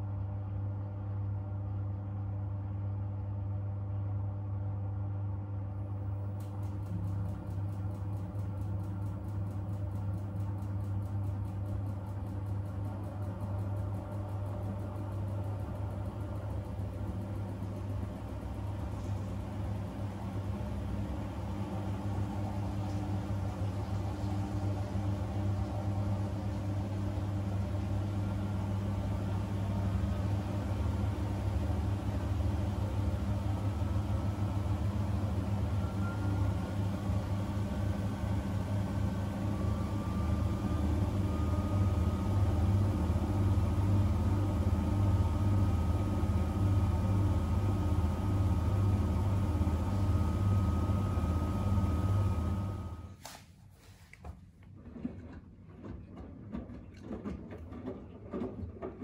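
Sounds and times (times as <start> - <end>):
washing machine hum: 0.0 - 59.0
washing machine drum whine: 5.7 - 53.2.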